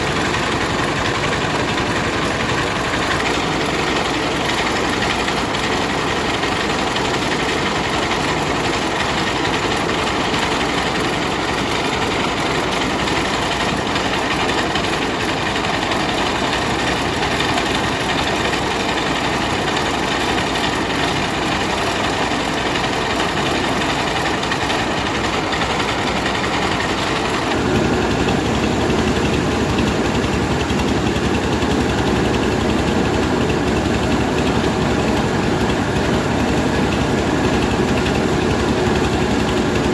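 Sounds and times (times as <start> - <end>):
rice milling machine running: 0.0 - 39.9.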